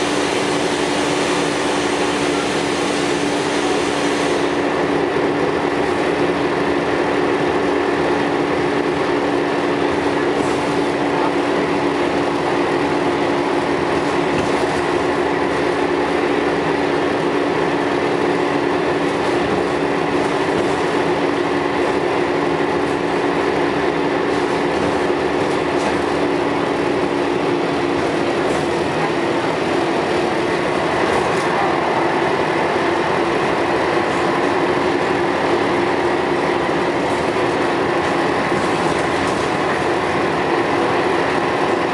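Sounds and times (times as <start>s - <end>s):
bus diesel engine drone: 0.0s - 41.9s
droning whine: 0.0s - 41.9s.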